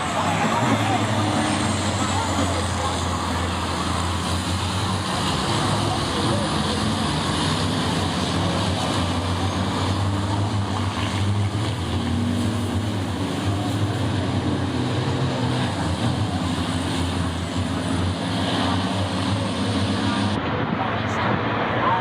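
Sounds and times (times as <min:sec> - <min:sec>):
diesel truck engines droning: 0:00.0 - 0:22.0.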